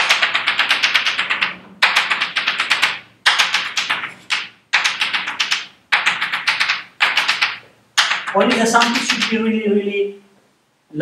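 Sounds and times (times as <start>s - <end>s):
chalk tapping on blackboard: 0.0s - 9.4s.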